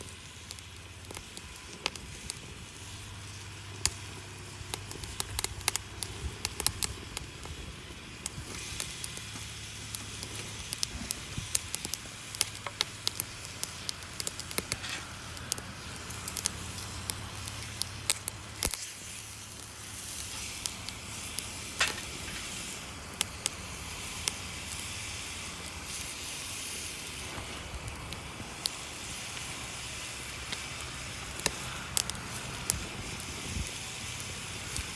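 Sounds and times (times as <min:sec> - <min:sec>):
low steady rumble: 0:00.0 - 0:34.9
steady hiss: 0:00.0 - 0:34.9
wood fire crackling and popping: 0:00.0 - 0:34.9.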